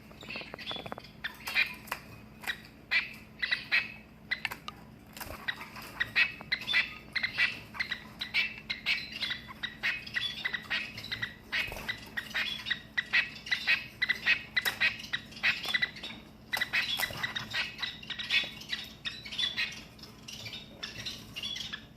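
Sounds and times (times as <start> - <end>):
finches calling: 0.0 - 4.6, 5.2 - 21.9.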